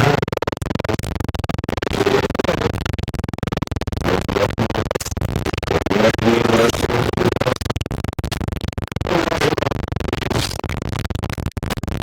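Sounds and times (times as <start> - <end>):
television static crackle and hiss: 0.0 - 12.0.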